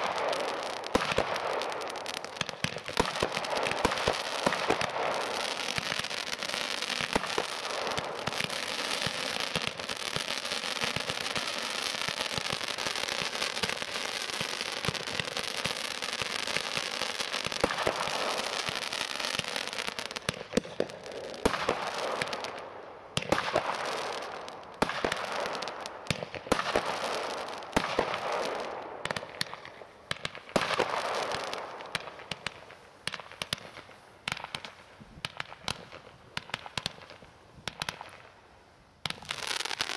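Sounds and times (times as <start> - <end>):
fireworks hissing and crackling: 0.0 - 39.9.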